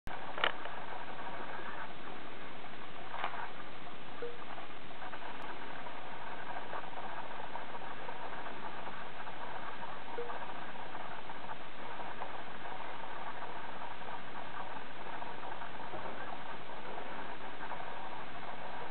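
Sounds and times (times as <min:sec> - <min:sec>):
steady hiss: 0:00.1 - 0:18.9.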